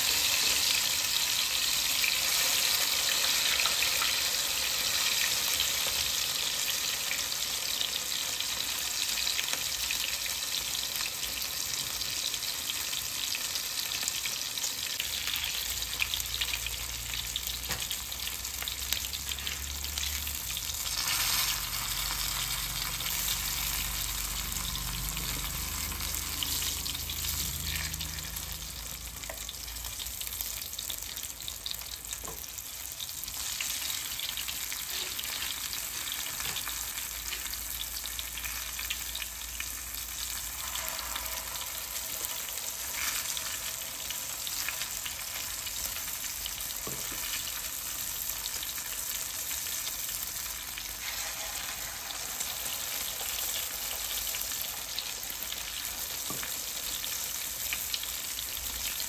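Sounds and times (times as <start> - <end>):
omelette sizzling in a pan: 0.0 - 59.0.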